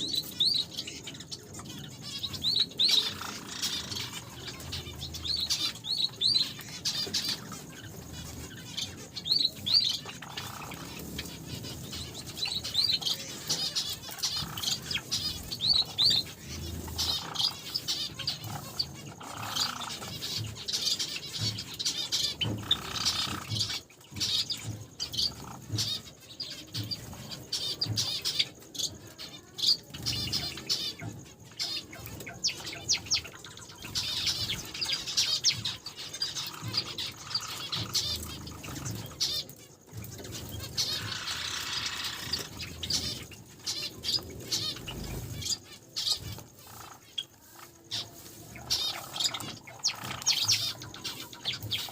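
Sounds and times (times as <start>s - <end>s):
finches chirping: 0.0s - 51.9s.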